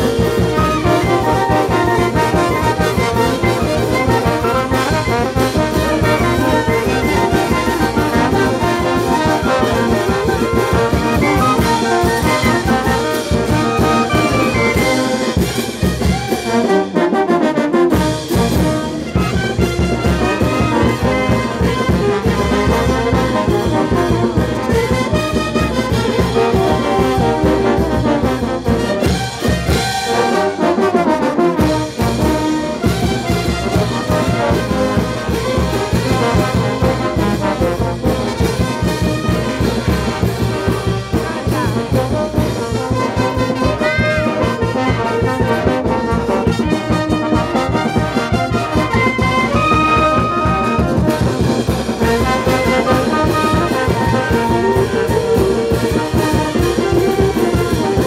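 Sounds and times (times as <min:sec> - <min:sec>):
steady drum beat: 0:00.0 - 0:16.6, 0:17.9 - 0:30.6, 0:31.6 - 0:58.0
brass band playing a dance tune: 0:00.0 - 0:58.0.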